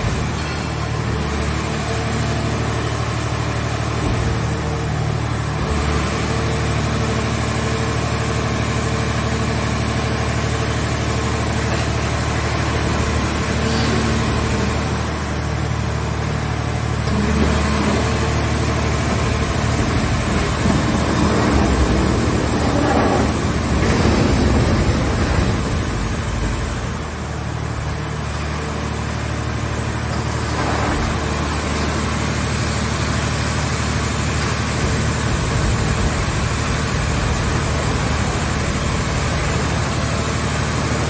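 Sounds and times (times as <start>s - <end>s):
baler machinery running: 0.0s - 41.0s.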